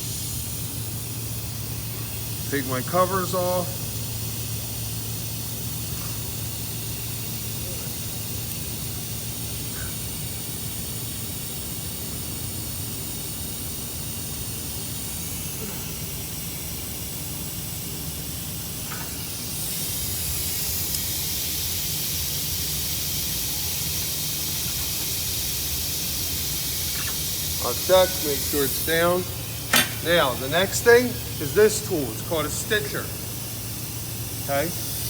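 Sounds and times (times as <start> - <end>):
steady hissing noise: 0.0 - 35.0.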